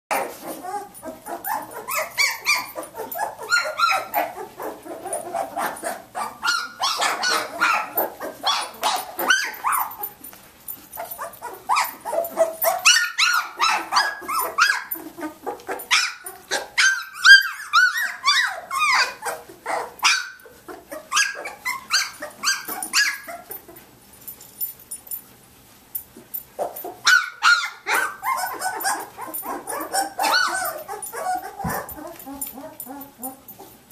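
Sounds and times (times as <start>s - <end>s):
puppies crying and yipping: 0.1s - 24.0s, 26.2s - 33.9s.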